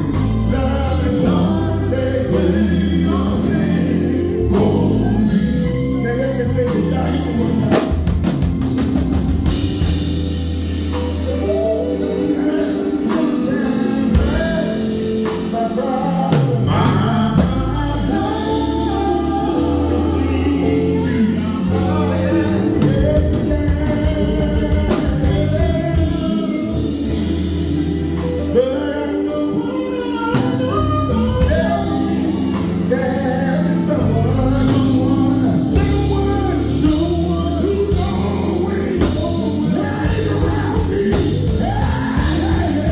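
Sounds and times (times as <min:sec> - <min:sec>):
gospel group singing: 0:00.0 - 0:42.9
live band with bass and drums: 0:00.0 - 0:42.9.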